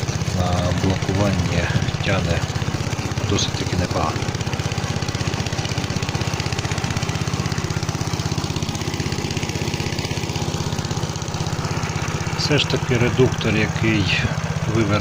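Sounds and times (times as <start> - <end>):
walk-behind tractor engine running: 0.0 - 15.0.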